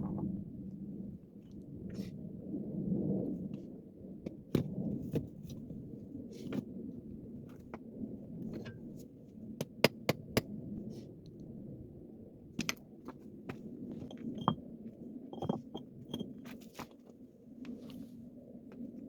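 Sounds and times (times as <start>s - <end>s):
low background rumble: 0.0s - 16.4s.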